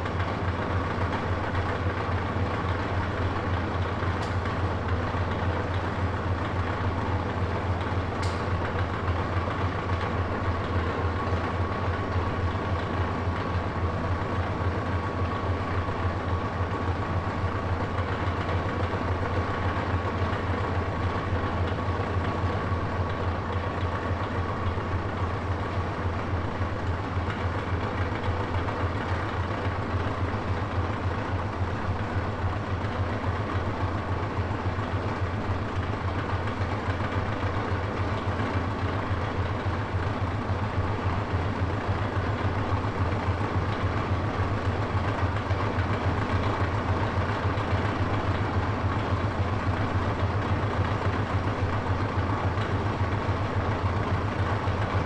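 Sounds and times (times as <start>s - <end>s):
low mechanical hum with flutter: 0.0s - 55.0s.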